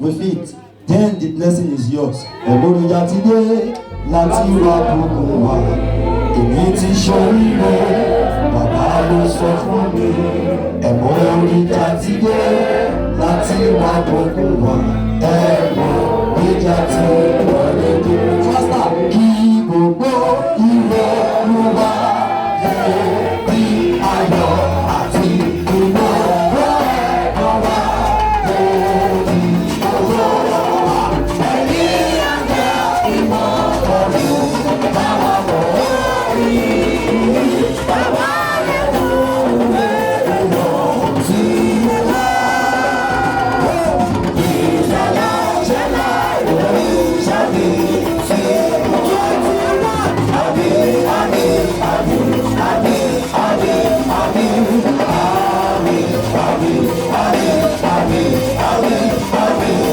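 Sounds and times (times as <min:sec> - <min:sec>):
voices singing: 0:00.0 - 0:59.9
band with drums: 0:02.3 - 0:59.9.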